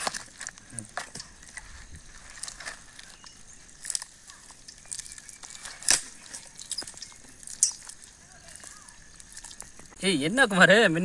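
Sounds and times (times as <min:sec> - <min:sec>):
wet squishing of hands on paste: 0:00.0 - 0:10.0.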